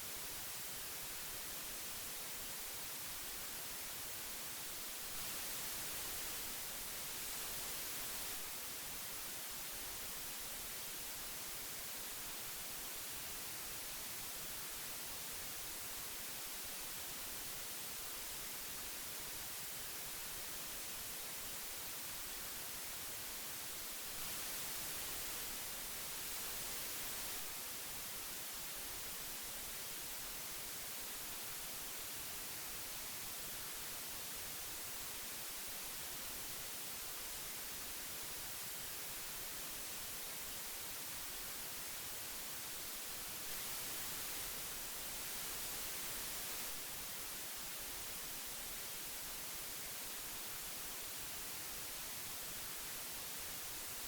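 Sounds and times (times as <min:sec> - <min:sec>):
tape hiss: 0:00.0 - 0:54.0.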